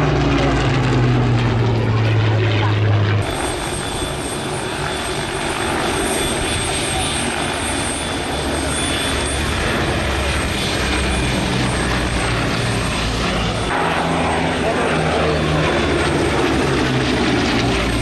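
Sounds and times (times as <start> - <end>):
propeller plane engines flying past: 0.0 - 18.0.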